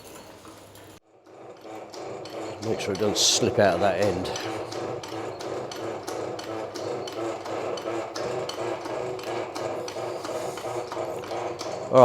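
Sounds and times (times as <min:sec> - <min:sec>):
hoist metallic clicking: 0:00.0 - 0:12.0.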